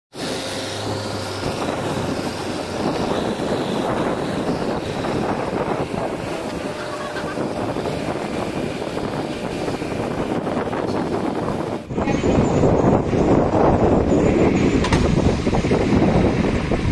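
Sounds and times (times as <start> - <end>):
heavy diesel engine running: 0.1 - 16.9
wind buffeting microphone: 0.2 - 16.9.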